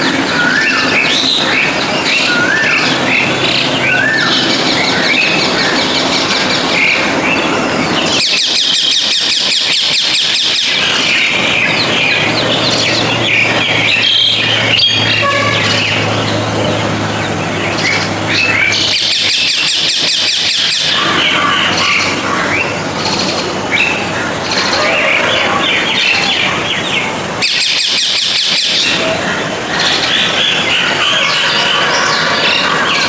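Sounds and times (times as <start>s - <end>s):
birds chirping: 0.0s - 33.0s
rapid buzzy pulsed bird calls: 0.0s - 33.0s.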